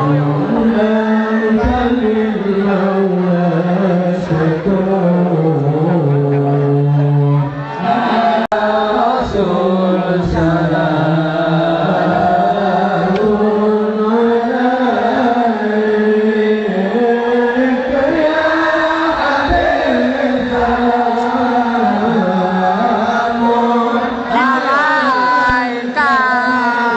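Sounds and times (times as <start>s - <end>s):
person singing devotional song: 0.0s - 26.9s.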